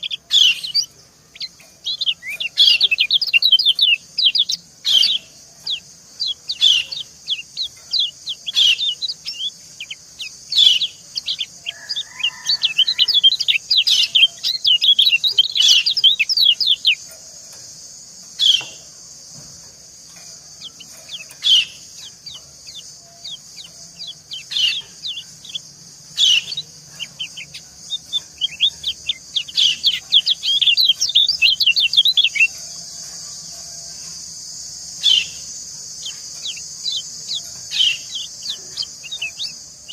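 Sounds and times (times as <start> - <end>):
rapid bird twittering: 0.0 - 17.2, 20.1 - 33.7, 34.3 - 39.9
birds chirping: 0.0 - 39.9
steady high hiss: 0.0 - 39.9.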